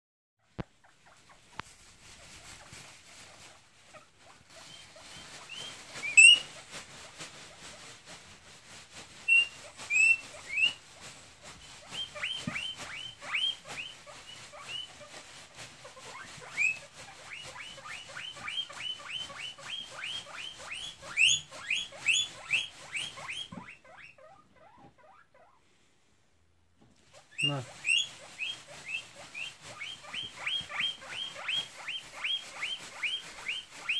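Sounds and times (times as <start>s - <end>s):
guinea pig squealing: 0.5s - 7.9s, 9.2s - 25.6s, 27.1s - 33.9s.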